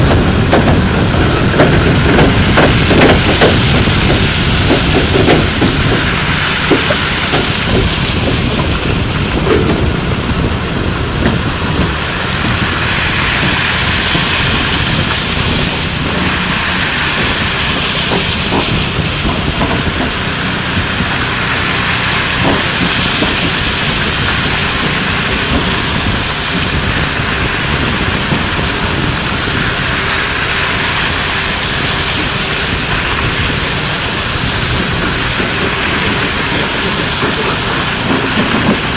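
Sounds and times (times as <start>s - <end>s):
trailers knocking: 0.0s - 38.9s
tyres rolling on gravel: 0.0s - 38.9s.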